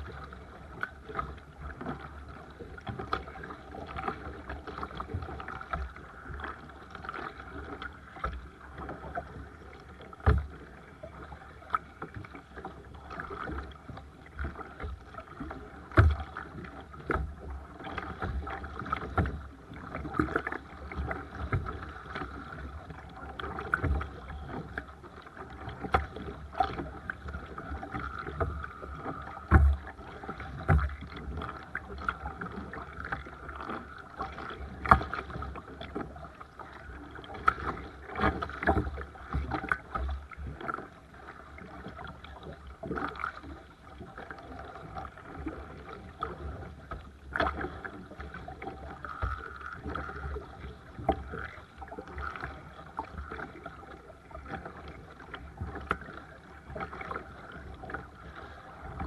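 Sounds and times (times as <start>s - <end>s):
paddle splashes and knocks: 0.0s - 59.0s
water washing around kayak hull: 0.0s - 59.0s.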